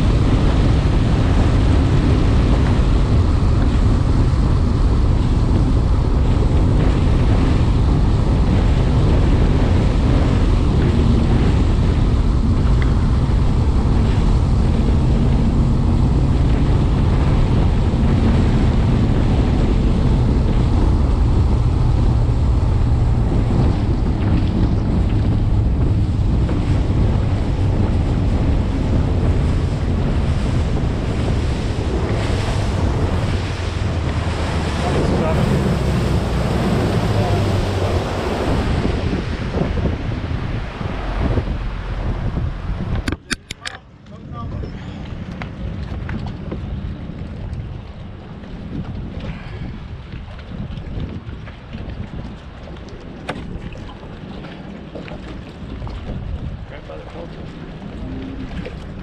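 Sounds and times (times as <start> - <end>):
outboard motor droning: 0.0 - 59.0
water rushing along hull: 0.0 - 59.0
wind buffeting microphone: 0.0 - 59.0.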